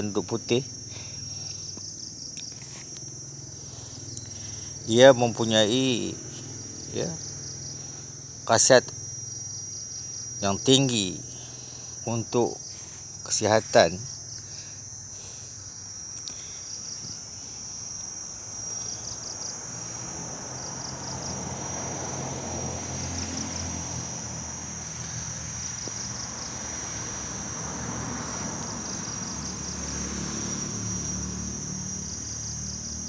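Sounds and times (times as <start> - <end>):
insects chirring: 0.0 - 33.0
pulsing insect trills: 0.0 - 33.0.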